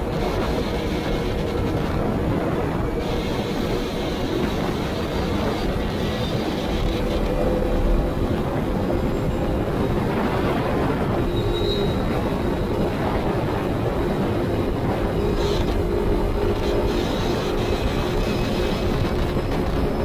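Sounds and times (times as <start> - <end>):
atv engine running: 0.0 - 20.0
wind rumble on microphone: 0.0 - 20.0.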